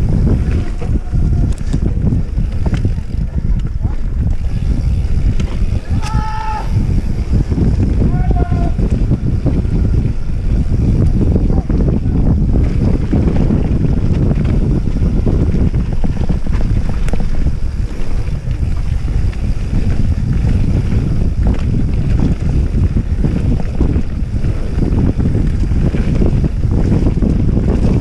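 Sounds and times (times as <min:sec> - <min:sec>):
bike knocks and rattles: 0:00.0 - 0:28.0
wind buffeting microphone: 0:00.0 - 0:28.0.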